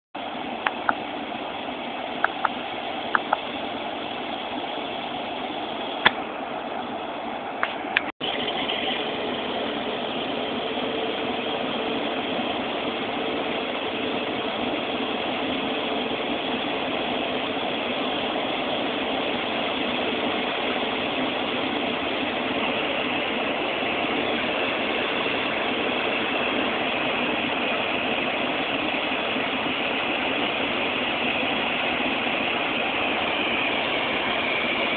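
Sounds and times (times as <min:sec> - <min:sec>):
distant jet engines humming: 0:00.2 - 0:34.9
faint steady whine: 0:00.2 - 0:34.9.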